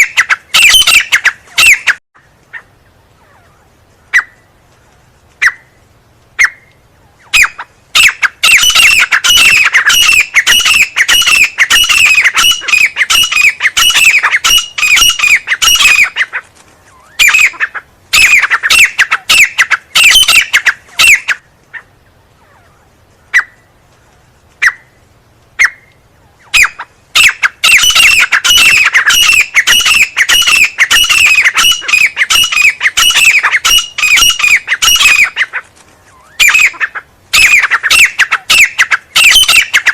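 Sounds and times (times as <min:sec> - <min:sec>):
francolin calling: 0:00.0 - 0:04.5, 0:06.4 - 0:23.7, 0:25.6 - 0:39.9.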